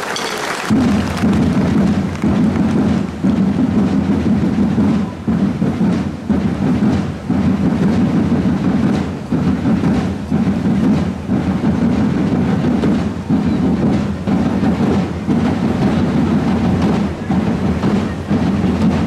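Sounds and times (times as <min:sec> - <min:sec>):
massed marching drums: 0:00.0 - 0:19.0.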